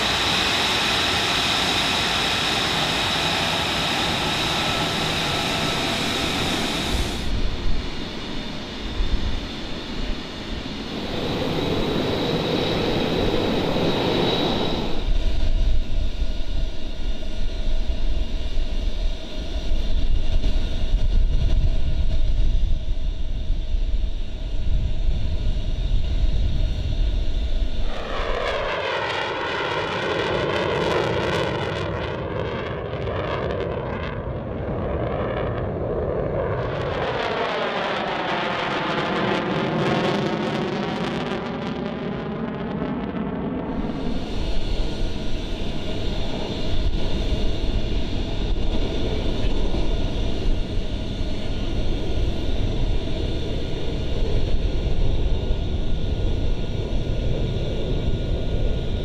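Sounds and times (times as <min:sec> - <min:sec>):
jet passing overhead: 0:00.0 - 0:59.0
jet takeoff rumble: 0:00.0 - 0:59.0
jet taxiing whine: 0:00.0 - 0:59.0.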